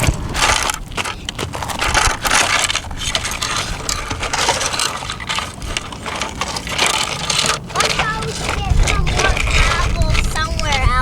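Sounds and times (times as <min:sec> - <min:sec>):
rocks and sand crunching on plastic: 0:00.0 - 0:11.0.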